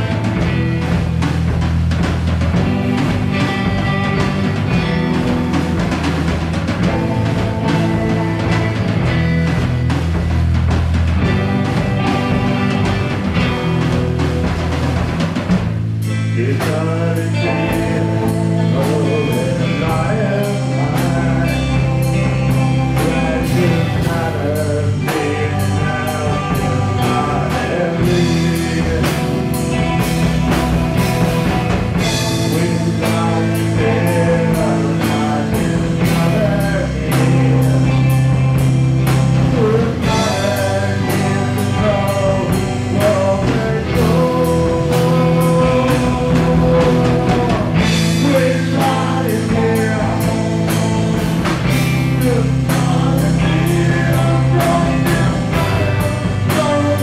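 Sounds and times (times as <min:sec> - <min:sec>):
bending guitar lead line: 0:00.0 - 0:57.0
drum kit beat: 0:00.0 - 0:57.0
rock band playing instrumental: 0:00.0 - 0:57.0.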